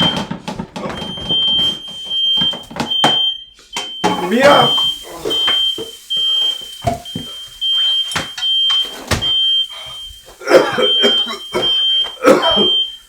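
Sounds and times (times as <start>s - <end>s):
smoke alarm beeping: 0.0s - 13.0s.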